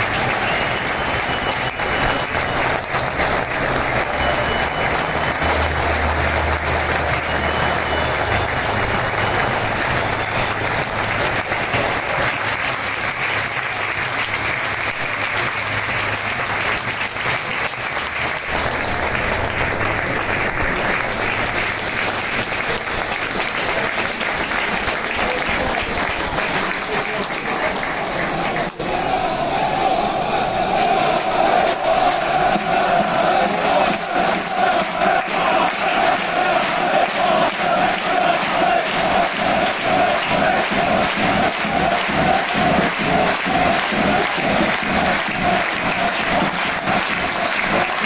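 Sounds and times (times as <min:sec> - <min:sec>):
stadium crowd applauding: 0:00.0 - 0:48.0.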